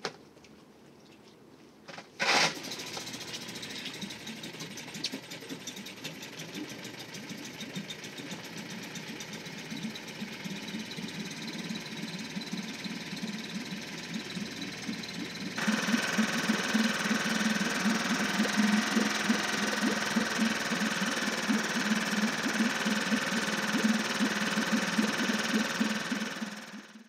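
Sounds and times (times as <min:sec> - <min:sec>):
outboard motor idling: 0:02.5 - 0:27.0.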